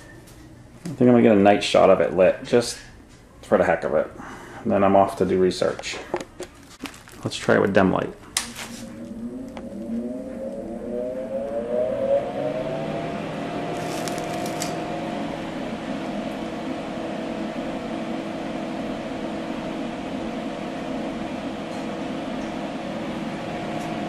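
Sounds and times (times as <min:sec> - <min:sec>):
computer fan humming: 0:00.0 - 0:24.0.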